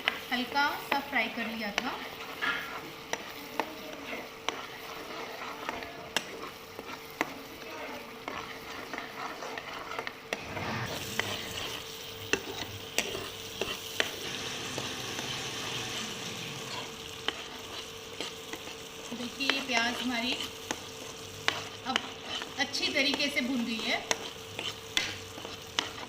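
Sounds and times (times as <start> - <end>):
onion paste sizzling in oil: 0.0 - 26.0
spatula scraping a pan: 0.0 - 26.0.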